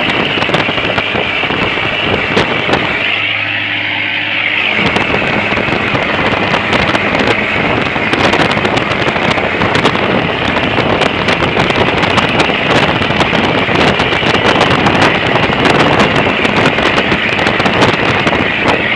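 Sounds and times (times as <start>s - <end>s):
engine running: 0.0s - 18.9s
rushing noise and crackle: 0.0s - 18.9s.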